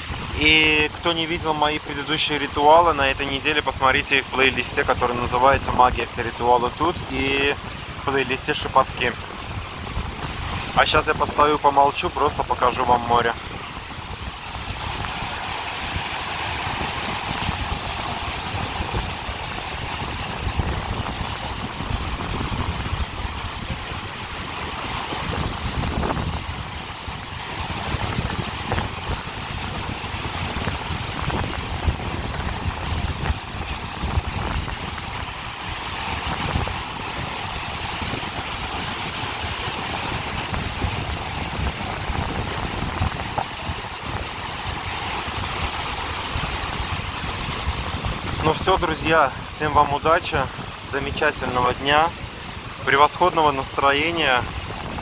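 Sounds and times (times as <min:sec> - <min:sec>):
surf washing onto beach: 0:00.0 - 0:55.0
waves breaking on shore: 0:00.0 - 0:55.0
wind rumbling on microphone: 0:00.0 - 0:55.0.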